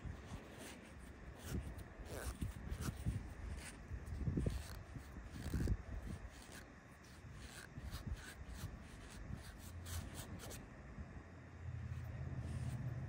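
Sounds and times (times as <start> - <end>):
paper towel rubbing metal pipe: 0.0 - 10.6.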